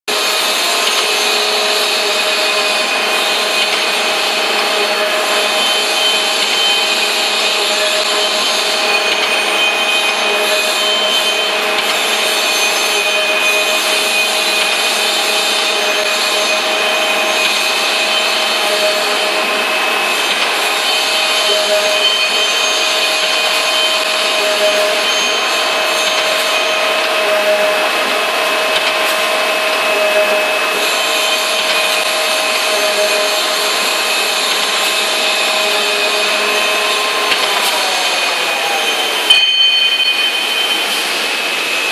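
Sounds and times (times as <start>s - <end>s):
hydraulic machine hum and hiss: 0.1s - 41.9s.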